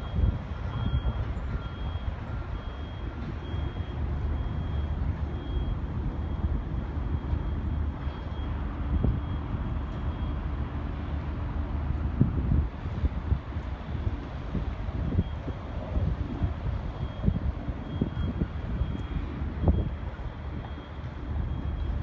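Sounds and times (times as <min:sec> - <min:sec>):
vehicle reversing alarm beeping: 0:00.0 - 0:12.0, 0:13.9 - 0:22.0.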